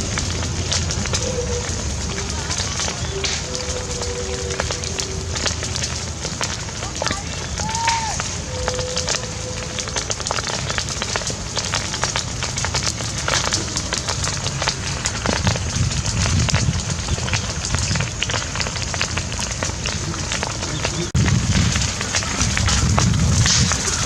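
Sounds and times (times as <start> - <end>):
low rumble: 0.0 - 24.0
open fire crackling and popping: 0.0 - 24.0.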